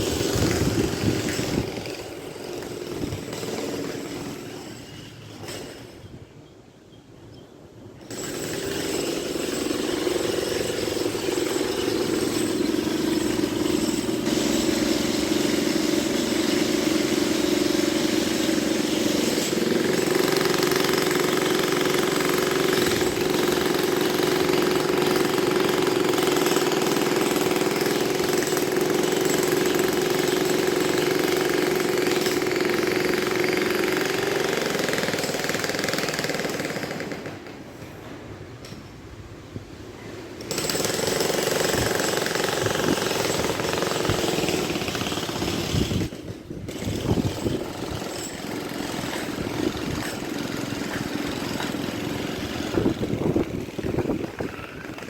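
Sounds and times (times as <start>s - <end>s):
construction machinery drone and rattle: 0.0s - 6.3s, 7.9s - 39.1s, 40.4s - 55.0s.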